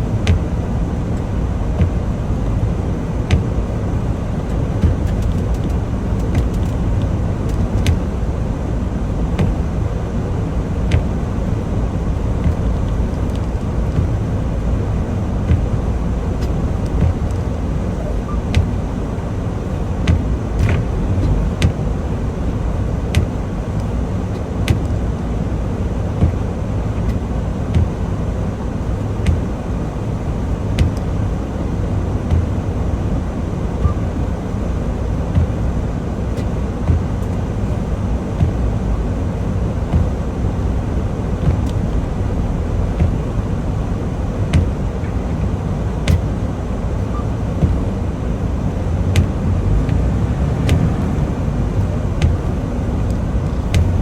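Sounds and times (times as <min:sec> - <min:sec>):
truck engine rumble from cab: 0:00.0 - 0:54.0.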